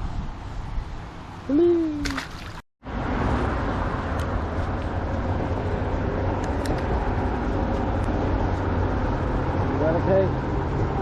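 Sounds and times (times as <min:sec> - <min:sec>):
vehicle engine hum and hiss: 0:00.0 - 0:11.0.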